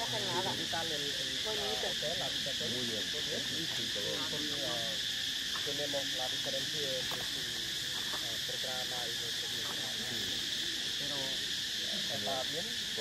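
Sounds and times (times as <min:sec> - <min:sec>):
faint voices chattering: 0:00.0 - 0:13.0
insects droning: 0:00.0 - 0:13.0.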